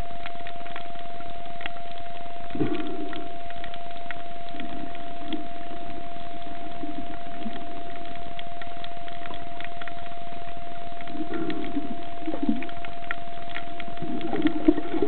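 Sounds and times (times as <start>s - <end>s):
constant high whine: 0.0s - 15.0s
sharp clicks underwater: 0.0s - 15.0s
muffled low sounds: 2.0s - 15.0s.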